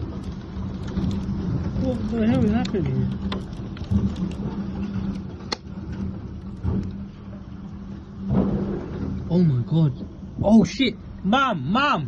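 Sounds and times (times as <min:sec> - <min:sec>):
rain: 0:00.0 - 0:12.0
steady low hum: 0:00.0 - 0:12.0.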